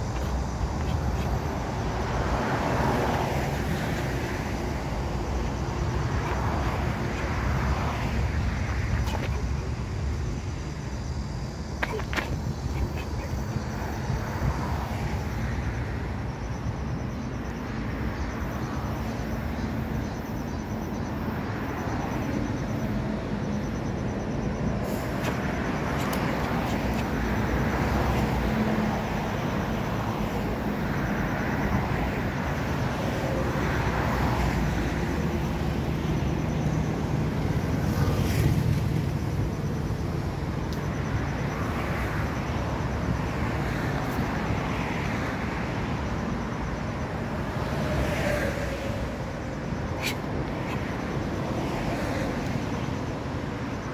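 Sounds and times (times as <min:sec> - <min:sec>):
passing cars: 0:00.0 - 0:53.9.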